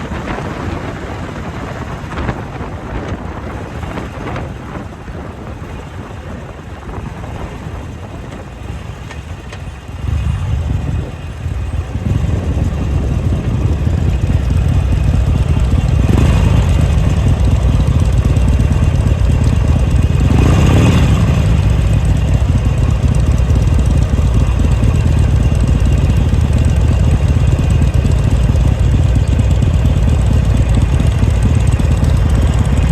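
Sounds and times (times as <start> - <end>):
motorcycle engine rumbling: 0.0 - 32.9.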